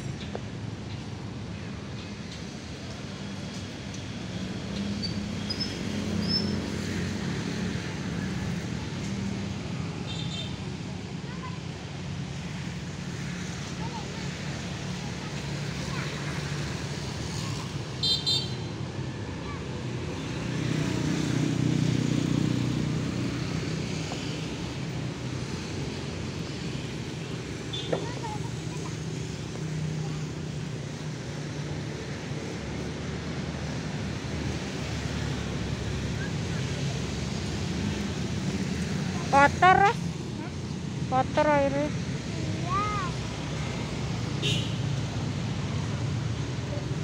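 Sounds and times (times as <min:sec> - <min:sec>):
road traffic hum: 0:00.0 - 0:47.0.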